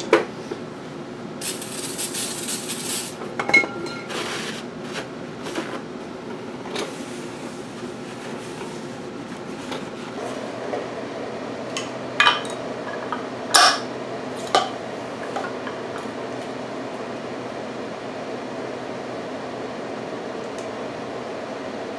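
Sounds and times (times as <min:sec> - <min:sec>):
steady background hum: 0:00.0 - 0:21.9.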